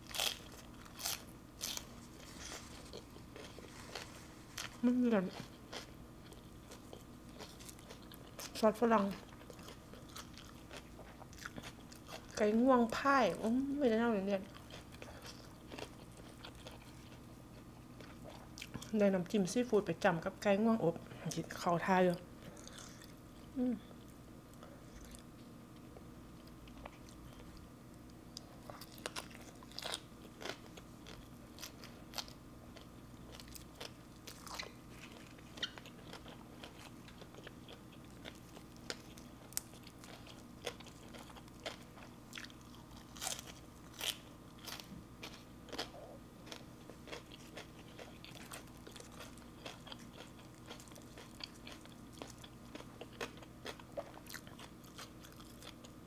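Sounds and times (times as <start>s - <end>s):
chewing crunchy food: 0.0s - 13.0s, 14.3s - 19.0s, 22.4s - 56.0s
faint steady hum: 0.0s - 56.0s.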